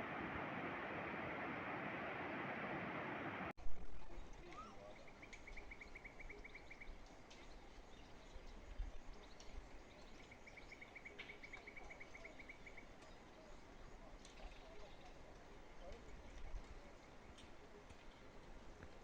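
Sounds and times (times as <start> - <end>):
open-air background hiss: 0.0 - 19.0.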